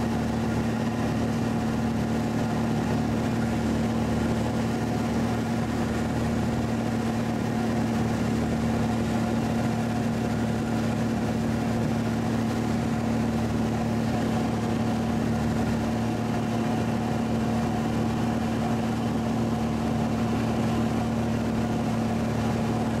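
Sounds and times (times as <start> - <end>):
light airplane engine humming: 0.0 - 23.0.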